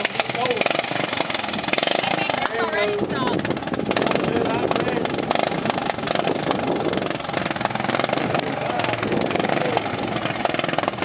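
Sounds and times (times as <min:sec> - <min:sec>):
lawn tractor engines running: 0:00.0 - 0:11.0.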